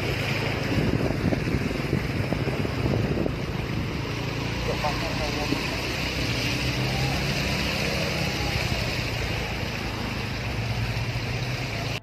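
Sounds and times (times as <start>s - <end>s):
floodwater rushing: 0.0s - 12.0s
low engine hum: 0.0s - 12.0s.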